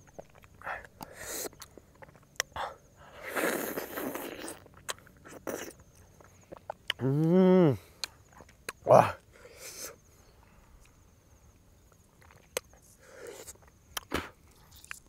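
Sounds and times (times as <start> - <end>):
man chewing with wet smacks: 0.0 - 9.9, 11.8 - 15.0.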